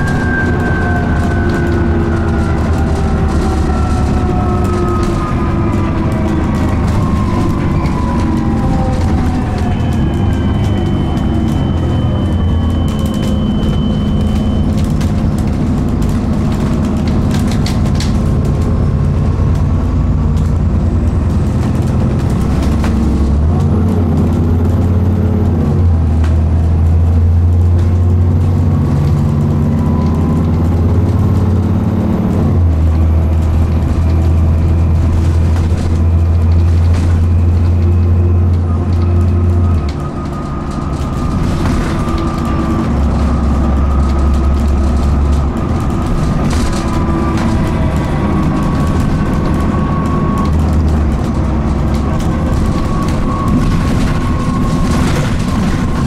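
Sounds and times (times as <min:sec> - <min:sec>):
bus diesel engine drone: 0:00.0 - 0:56.0
road noise: 0:00.0 - 0:56.0.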